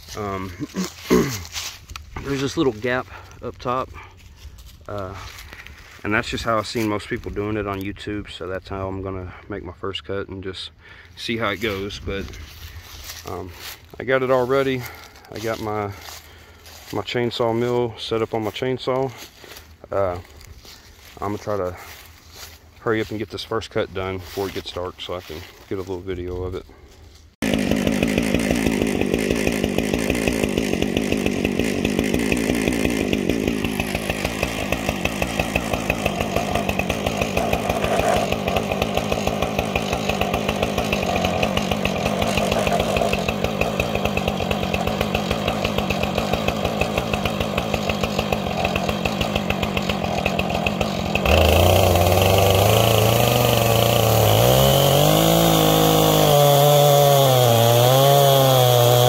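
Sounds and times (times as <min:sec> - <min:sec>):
chainsaw cutting log: 0:00.0 - 0:08.0, 0:11.2 - 0:23.3, 0:24.0 - 0:59.0
chainsaw running: 0:00.0 - 0:08.0, 0:11.0 - 0:59.0.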